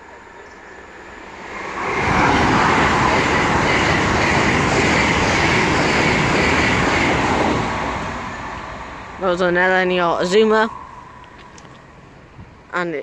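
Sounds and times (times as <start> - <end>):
high-speed train passing: 0.0 - 13.0.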